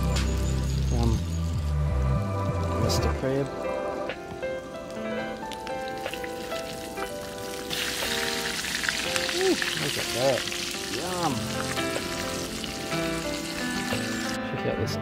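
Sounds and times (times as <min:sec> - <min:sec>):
fish frying in hot oil: 0:00.0 - 0:04.2, 0:04.9 - 0:14.4
background music: 0:00.0 - 0:15.0.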